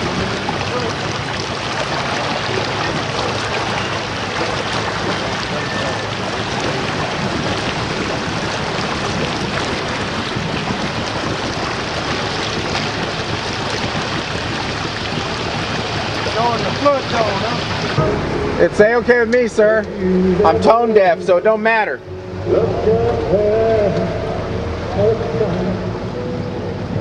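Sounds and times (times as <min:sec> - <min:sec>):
floodwater rushing: 0:00.0 - 0:27.0.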